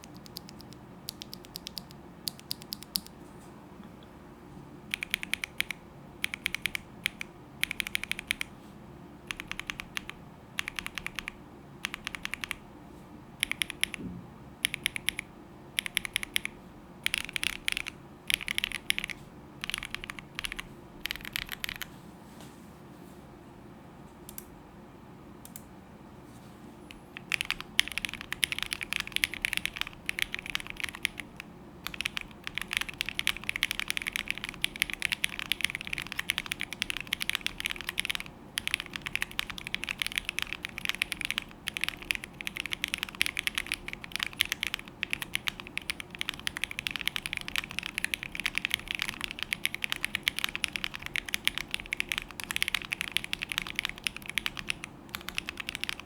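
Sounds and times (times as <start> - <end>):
mechanical keyboard typing: 0.0 - 3.1, 4.9 - 8.5, 9.3 - 12.6, 13.4 - 14.0, 14.6 - 21.9, 27.1 - 56.0.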